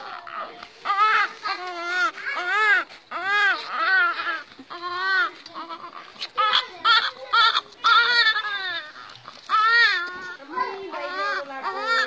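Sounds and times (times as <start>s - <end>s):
baby crying: 0.0s - 12.0s.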